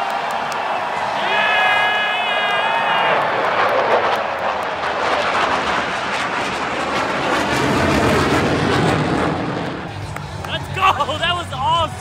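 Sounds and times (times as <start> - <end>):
military jets roaring overhead: 0.0 - 12.0.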